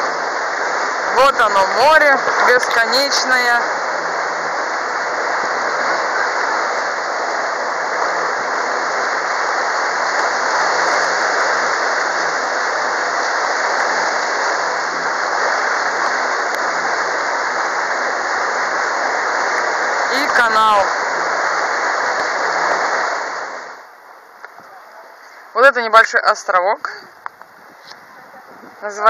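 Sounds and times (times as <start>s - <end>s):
water rushing along boat hull: 0.0s - 29.0s.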